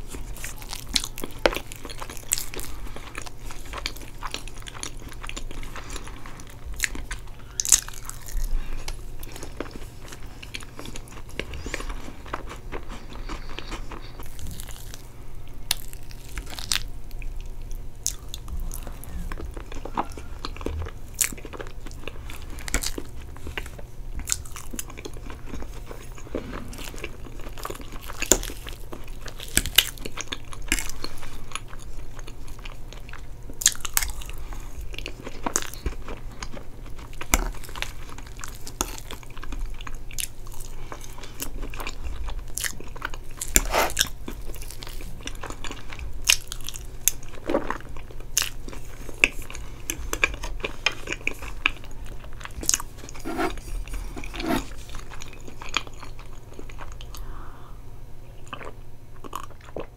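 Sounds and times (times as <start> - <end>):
chewing and biting: 0.0 - 57.2, 58.4 - 59.9.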